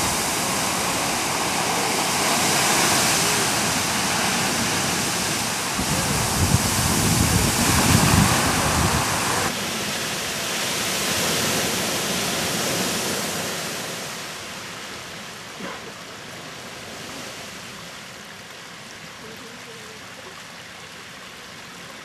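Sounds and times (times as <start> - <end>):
geyser water rushing and splashing: 0.0 - 22.0.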